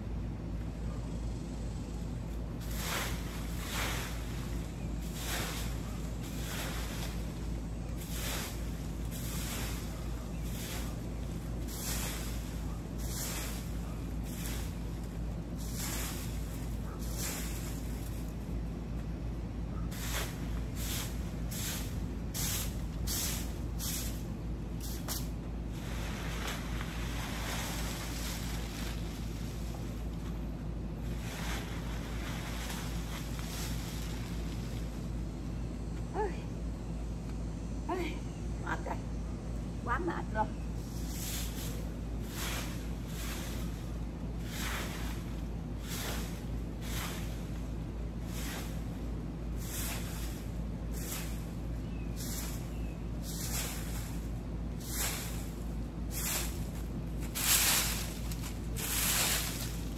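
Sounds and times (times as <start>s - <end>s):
broom sweeping leaves on dirt: 1.9s - 35.5s, 40.3s - 59.9s.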